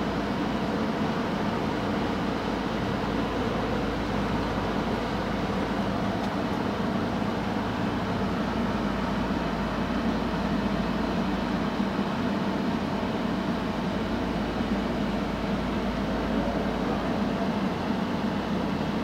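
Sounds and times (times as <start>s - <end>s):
diesel engines droning: 0.0s - 19.0s.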